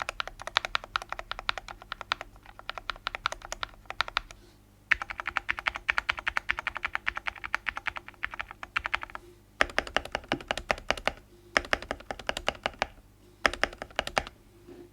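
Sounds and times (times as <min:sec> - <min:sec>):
mechanical keyboard typing: 0:00.0 - 0:14.3.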